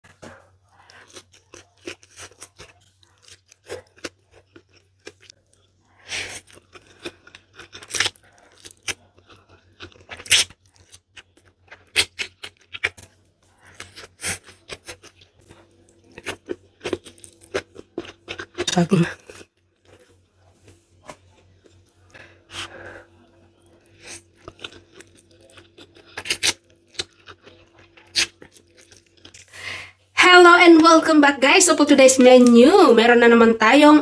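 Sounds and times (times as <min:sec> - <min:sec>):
person chewing noodles: 0:00.1 - 0:29.9.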